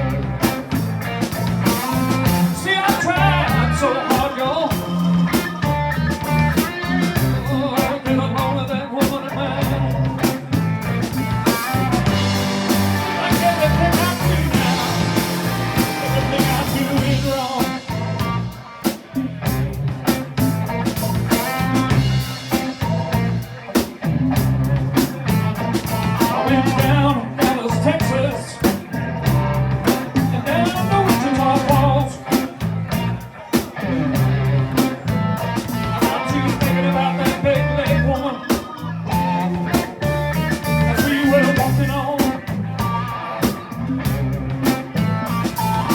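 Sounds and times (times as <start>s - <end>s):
blues band playing: 0.0s - 45.9s.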